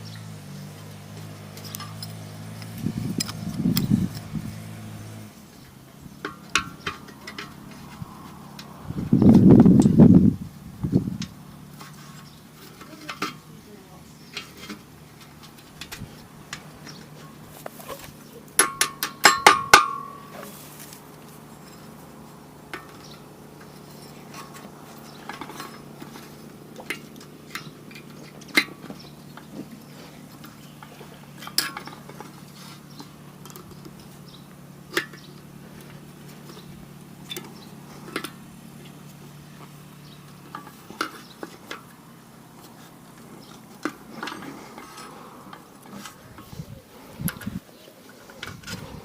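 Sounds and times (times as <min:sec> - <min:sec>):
metal tools clinking: 0:01.5 - 0:04.7, 0:11.2 - 0:47.6.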